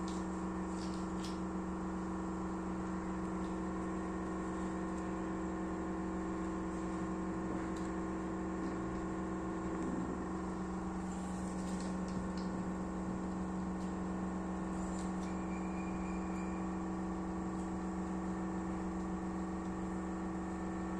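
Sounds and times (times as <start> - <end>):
electrical hum: 0.0 - 20.9.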